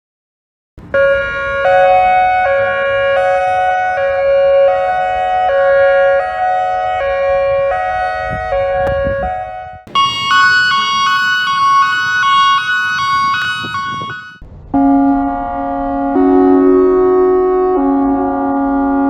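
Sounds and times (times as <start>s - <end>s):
hi-lo electronic warning siren: 0.8s - 19.0s.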